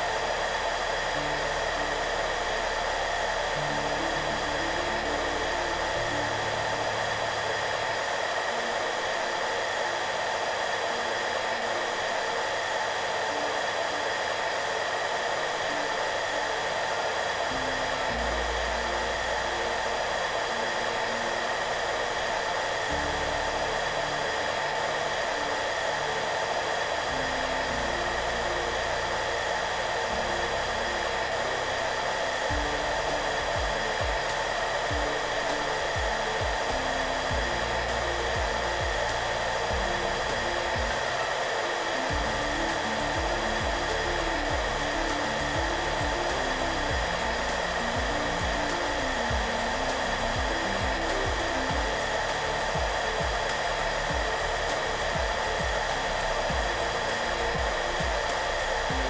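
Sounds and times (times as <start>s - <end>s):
hair dryer running: 0.0s - 59.0s
soft background music: 0.0s - 59.0s.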